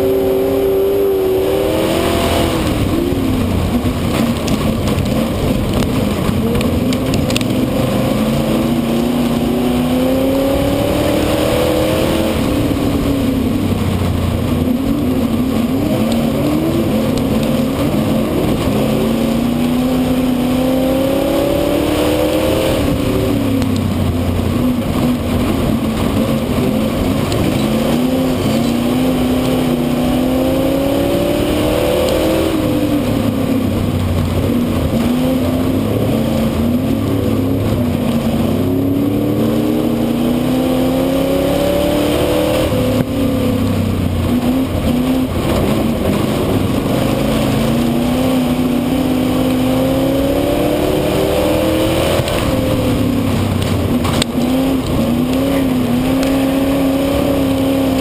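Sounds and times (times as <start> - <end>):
racing car engine revving: 0.0 - 58.0
wind roar: 0.0 - 58.0.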